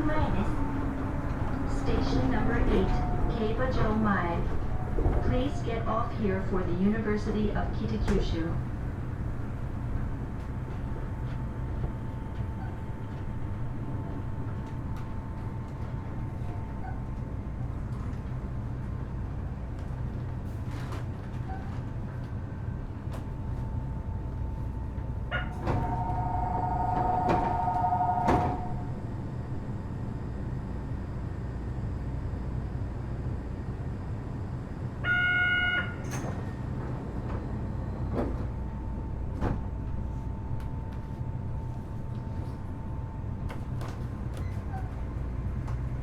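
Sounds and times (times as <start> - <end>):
train doors sliding open: 0.0 - 19.1, 19.8 - 23.6, 24.6 - 29.8, 35.8 - 46.0
monorail braking rumble: 0.0 - 46.0.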